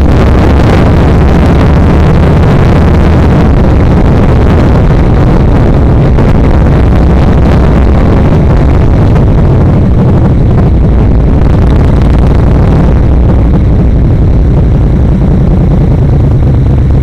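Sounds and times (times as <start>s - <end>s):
motorcycle engine running: 0.0s - 17.0s
road and wind noise: 0.0s - 17.0s.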